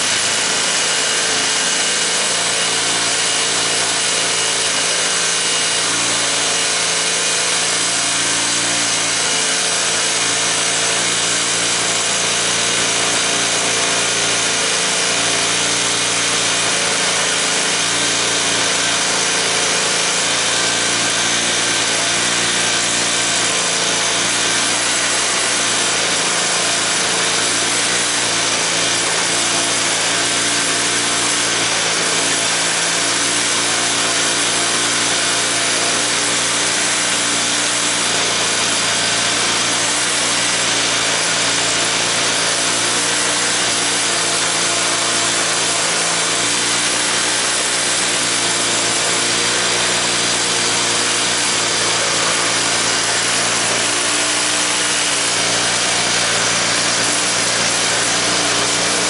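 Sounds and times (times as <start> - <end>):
small vehicle engine running: 0.0 - 59.0.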